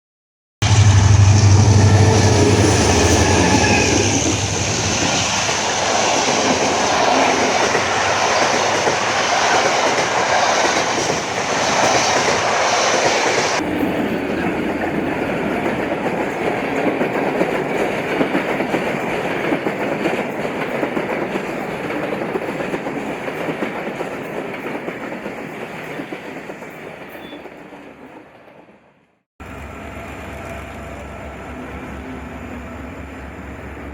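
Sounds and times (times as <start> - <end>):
train rumbling on rails: 0.6 - 33.9.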